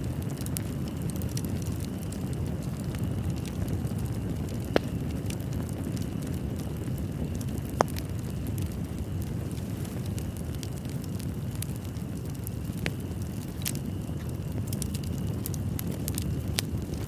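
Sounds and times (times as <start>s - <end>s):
fire pops: 0.0s - 17.0s
low rumble of flames: 0.0s - 17.0s
wood fire crackling: 0.0s - 17.0s.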